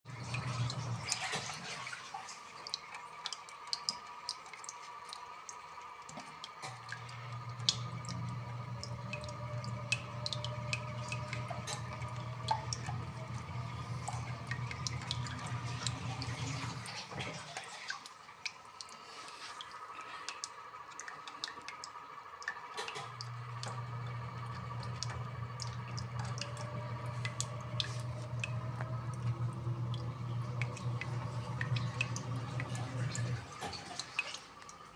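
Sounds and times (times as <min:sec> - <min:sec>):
water pump motor hum: 0:00.0 - 0:34.9
water dripping and splashing: 0:00.1 - 0:34.9.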